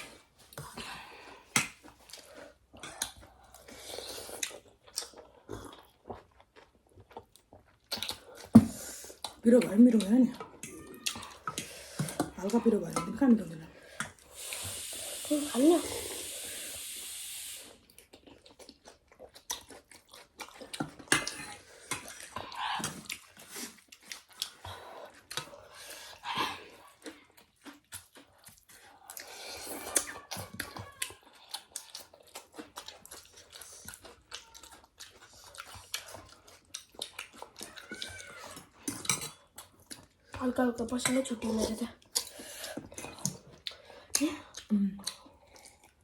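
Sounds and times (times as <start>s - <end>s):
people chewing noodle soup: 0.0s - 46.0s.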